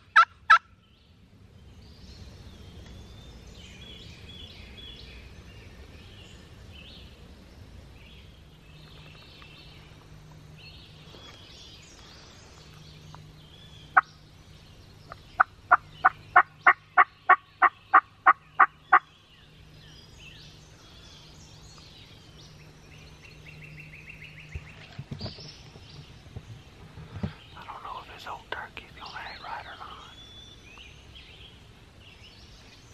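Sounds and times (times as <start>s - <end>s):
faint songbirds singing: 0.0s - 32.9s.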